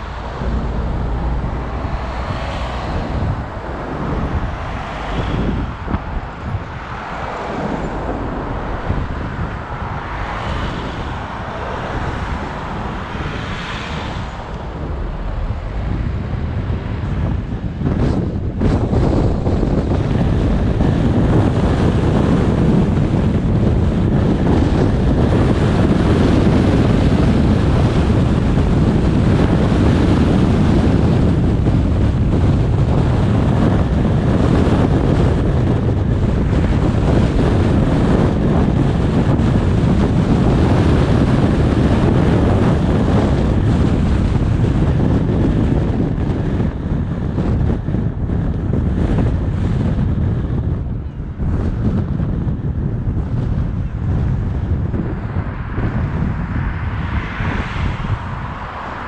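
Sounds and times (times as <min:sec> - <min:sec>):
tyre and road noise: 0:00.0 - 0:59.0
wind on microphone: 0:00.0 - 0:59.0.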